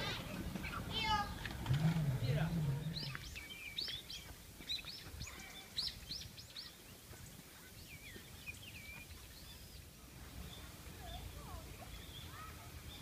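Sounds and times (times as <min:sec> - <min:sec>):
faint outdoor background noise: 0:00.0 - 0:13.0
small birds chirping: 0:00.0 - 0:13.0.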